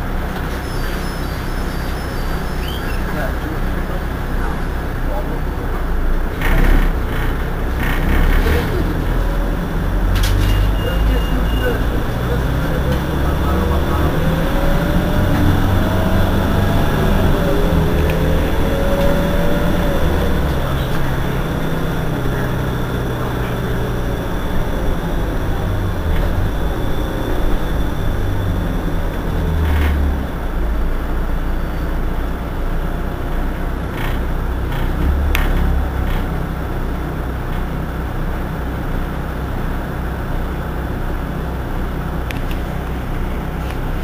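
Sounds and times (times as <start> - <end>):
bus diesel engine idling: 0.0 - 44.0.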